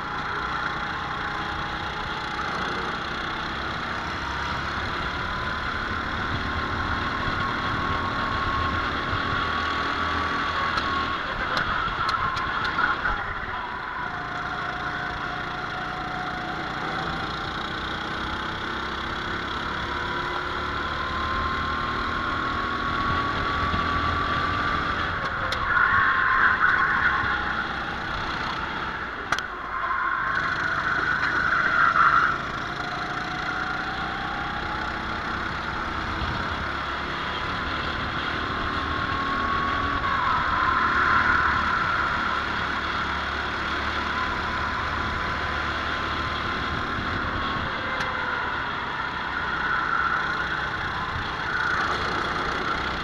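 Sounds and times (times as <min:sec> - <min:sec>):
kart engine accelerating: 0:00.0 - 0:53.0.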